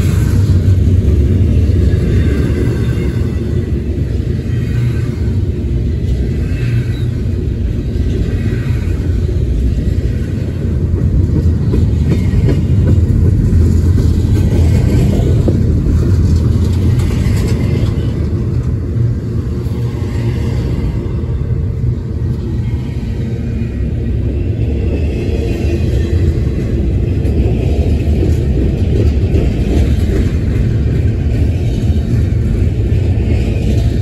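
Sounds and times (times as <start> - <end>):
freight train wheels rumbling on rails: 0.0 - 34.0.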